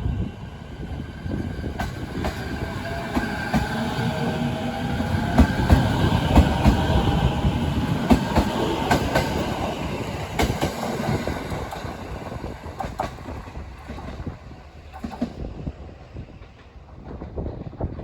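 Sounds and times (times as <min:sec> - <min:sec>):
low train rumble: 0:00.0 - 0:18.0
train wheels clicking on rails: 0:00.8 - 0:18.0.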